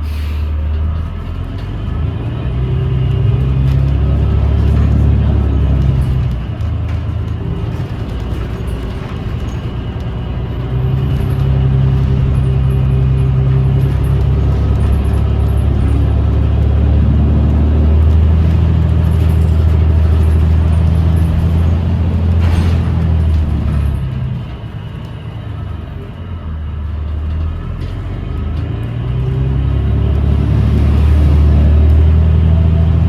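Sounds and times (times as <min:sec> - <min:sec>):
bus drivetrain droning hum: 0:00.0 - 0:33.0.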